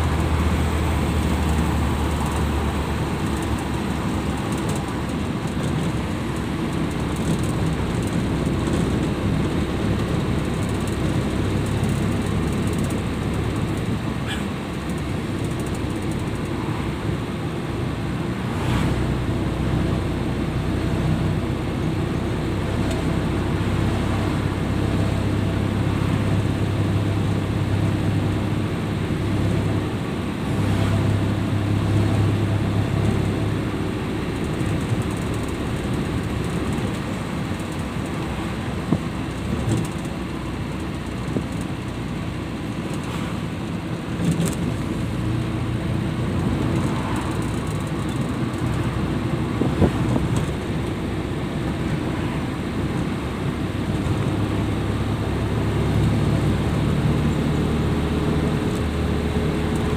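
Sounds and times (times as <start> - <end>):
van engine and road noise: 0.0 - 59.9.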